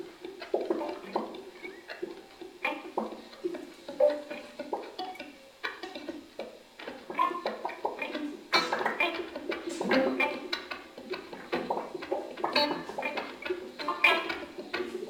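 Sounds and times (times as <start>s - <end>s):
electric guitars plucking notes: 2.6s - 15.0s.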